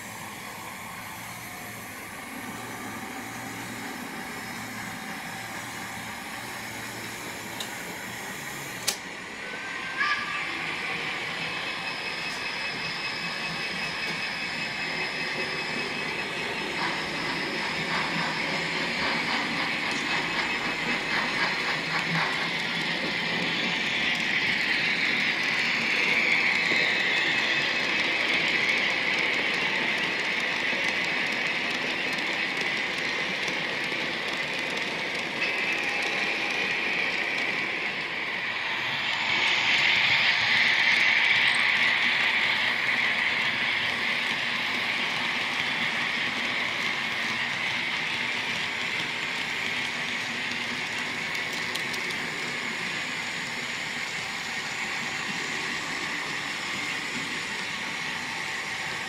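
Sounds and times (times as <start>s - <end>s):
model train motor whine: 0.0s - 59.0s.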